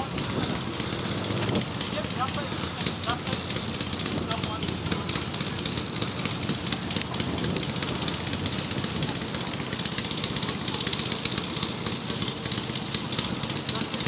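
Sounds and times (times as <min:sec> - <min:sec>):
quad bike engines idling: 0:00.0 - 0:14.0.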